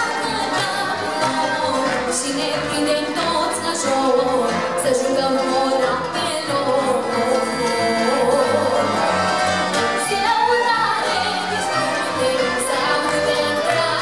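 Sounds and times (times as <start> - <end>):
folk orchestra playing: 0.0 - 14.0.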